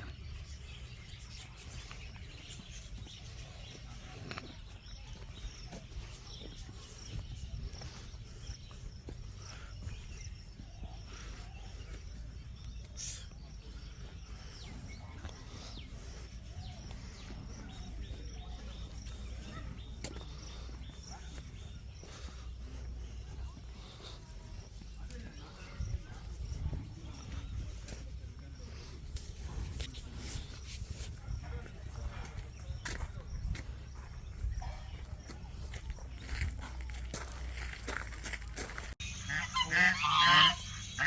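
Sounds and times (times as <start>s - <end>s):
faint bird chirps: 0.0s - 41.0s.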